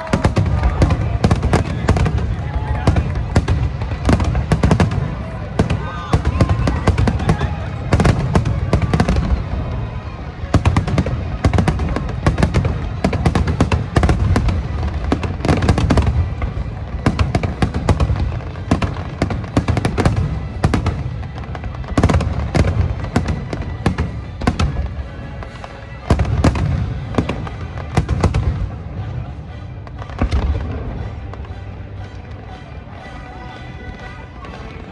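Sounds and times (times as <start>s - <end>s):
faint music: 0.0s - 34.9s.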